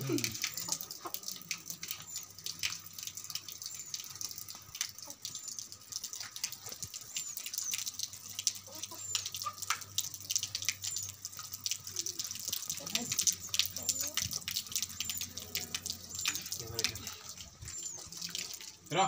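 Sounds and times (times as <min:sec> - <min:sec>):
tap water splashing on concrete: 0:00.0 - 0:19.0.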